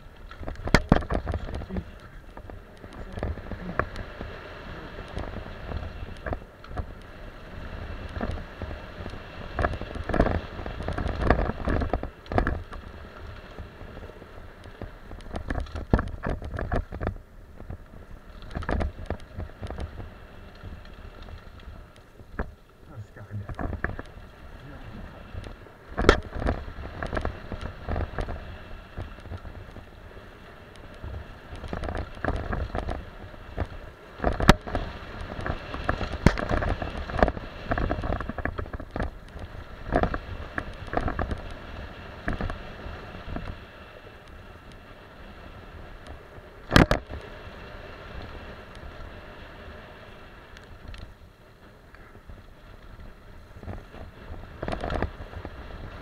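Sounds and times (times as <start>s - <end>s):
wind on microphone: 0.0s - 51.2s, 51.8s - 56.0s
bike tyres rumbling on dirt: 0.0s - 56.0s.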